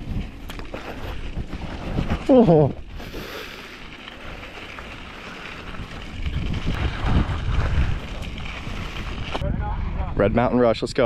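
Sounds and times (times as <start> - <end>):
wind over microphone: 0.0 - 3.3, 4.0 - 11.0
bike tyres rumbling on dirt: 0.0 - 10.6.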